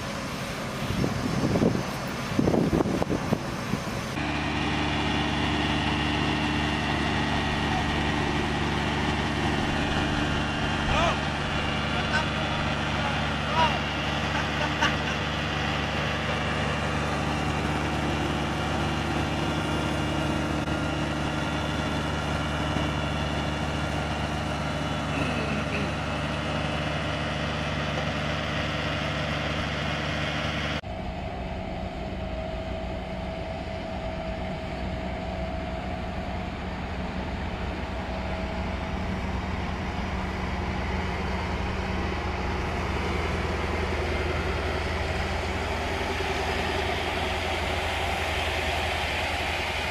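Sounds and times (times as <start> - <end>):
construction machinery engines: 0.0 - 49.9.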